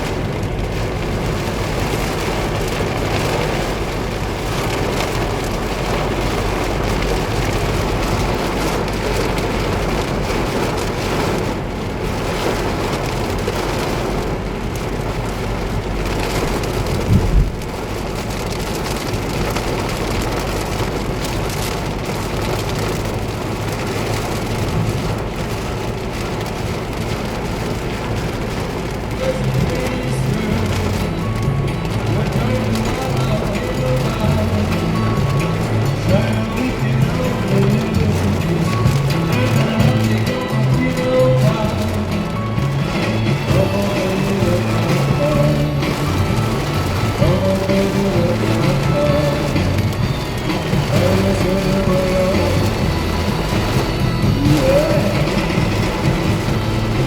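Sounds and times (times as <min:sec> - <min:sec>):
low rumble: 0:00.0 - 0:57.0
rain drumming on a car: 0:00.0 - 0:57.0.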